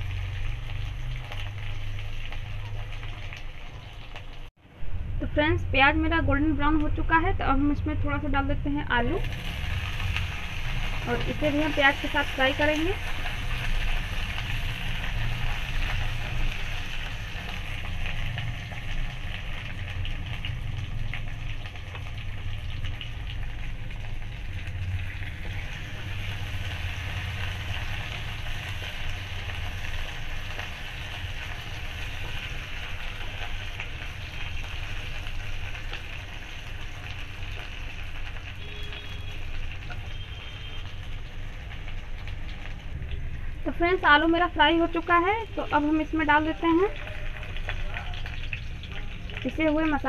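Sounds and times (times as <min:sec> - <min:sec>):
potatoes and onions sizzling: 0:00.0 - 0:50.0.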